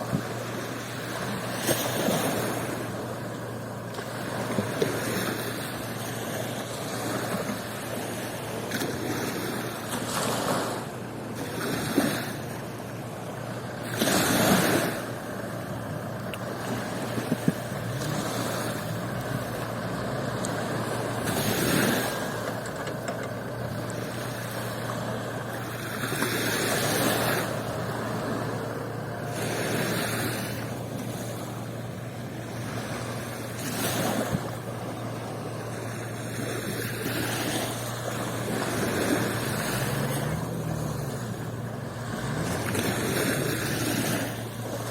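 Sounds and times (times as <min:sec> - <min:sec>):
rush of surf: 0:00.0 - 0:44.9
sea waves breaking on beach: 0:00.0 - 0:44.9.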